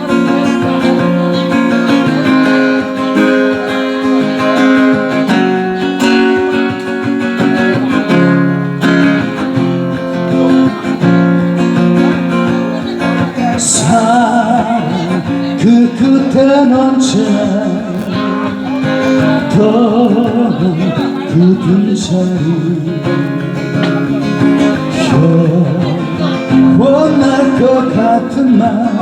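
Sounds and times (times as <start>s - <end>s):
held notes: 0.0s - 27.9s
acoustic guitar strumming chords: 0.0s - 29.0s.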